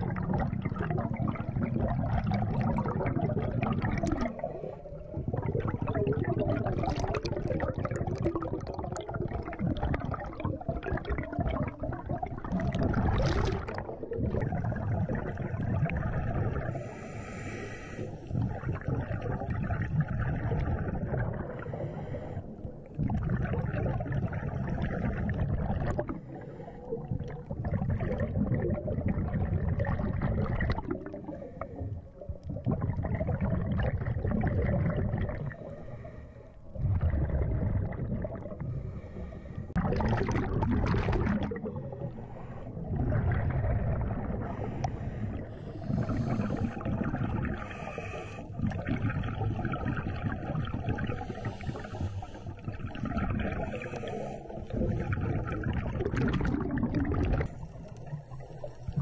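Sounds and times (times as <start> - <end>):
regulator bubbles gurgling underwater: 0.0 - 59.0.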